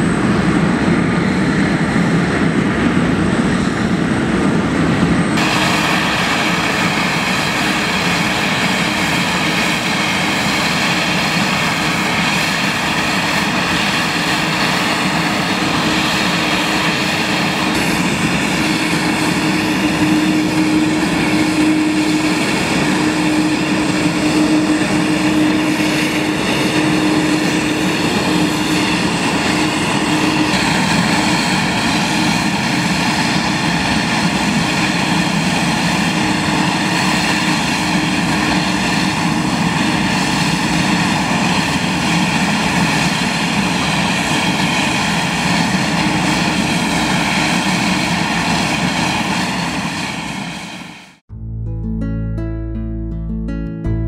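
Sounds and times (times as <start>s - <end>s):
jet engines droning: 0.0s - 51.2s.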